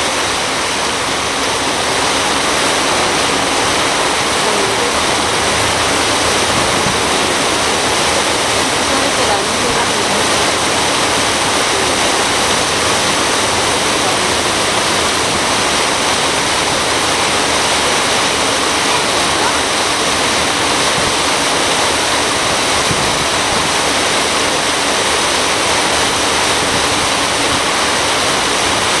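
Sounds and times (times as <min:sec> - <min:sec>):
water rushing past boat hull: 0:00.0 - 0:29.0.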